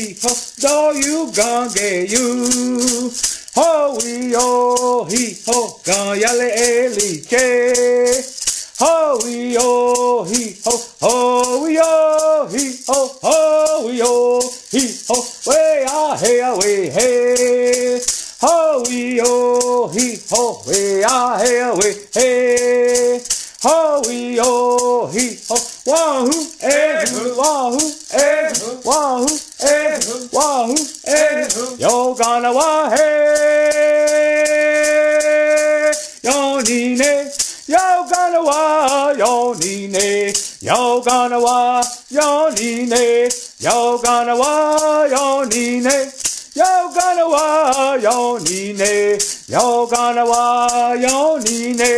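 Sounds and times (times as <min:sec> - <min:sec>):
hand rattle shaking: 0:00.0 - 0:51.9
man singing vocables: 0:00.0 - 0:51.9.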